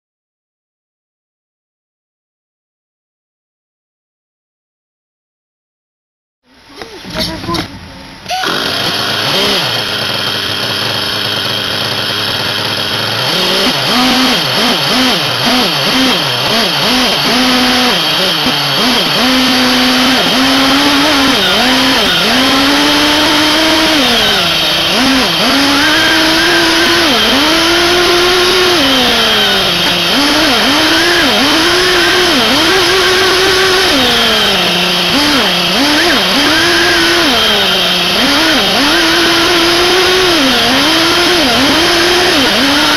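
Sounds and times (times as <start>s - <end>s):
small nitro engine revving: 6.5s - 42.9s.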